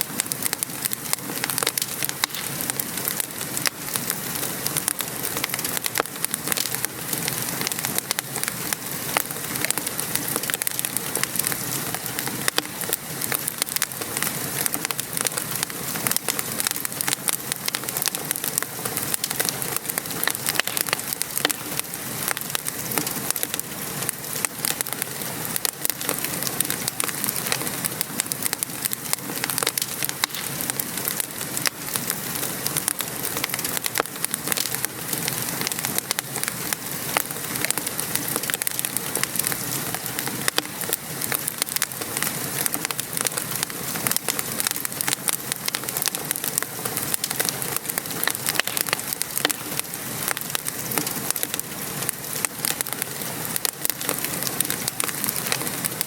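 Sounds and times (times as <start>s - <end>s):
steady rain: 0.0s - 56.0s
wood fire crackling: 0.0s - 56.0s.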